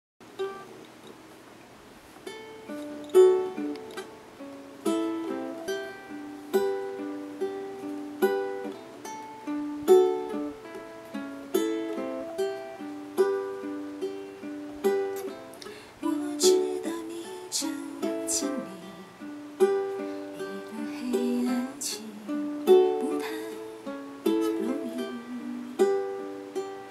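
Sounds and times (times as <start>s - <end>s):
ukulele strummed and picked: 0.2s - 26.9s.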